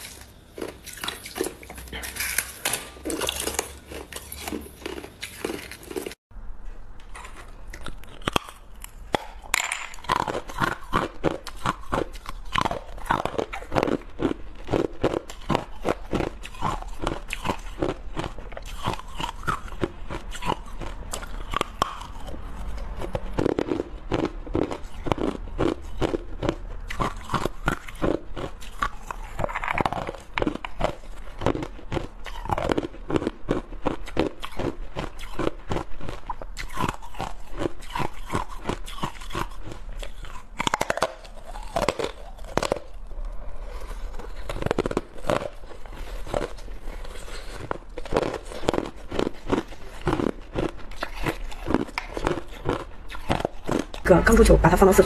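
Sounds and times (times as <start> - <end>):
ice being bitten and chewed: 0.0 - 6.2, 7.0 - 54.5.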